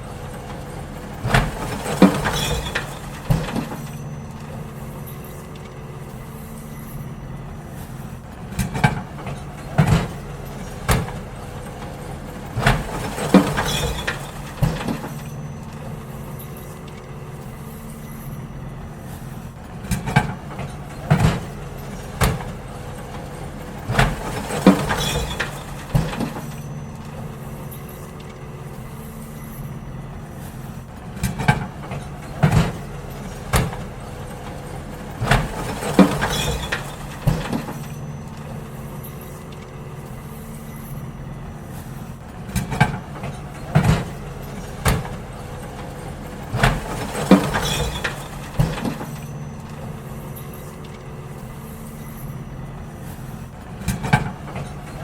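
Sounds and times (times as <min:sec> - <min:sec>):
bins clanking against truck: 0:00.0 - 0:55.0
garbage truck engine running: 0:00.0 - 0:55.0.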